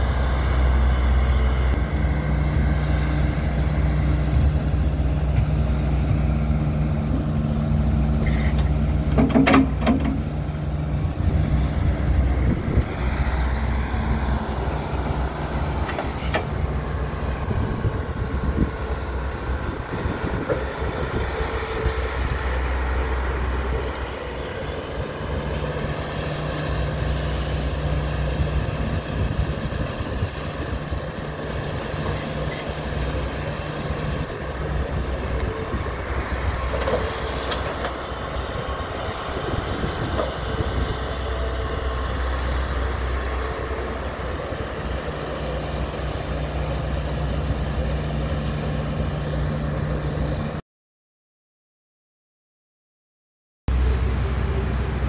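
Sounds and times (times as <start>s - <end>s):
excavator diesel engine running: 0.0s - 50.6s, 53.7s - 55.0s.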